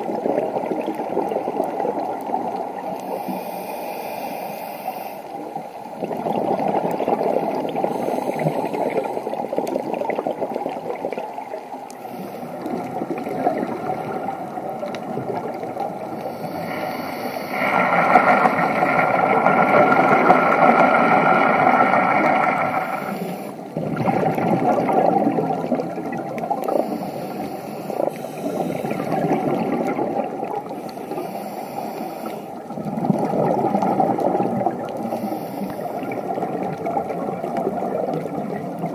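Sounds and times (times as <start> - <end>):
underwater bubbles rushing and gurgling: 0.0 - 38.9.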